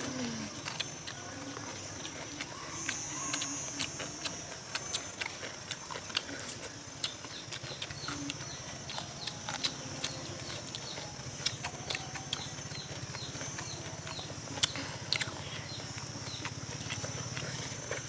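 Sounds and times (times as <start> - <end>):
crunching and chewing: 0.0 - 18.0.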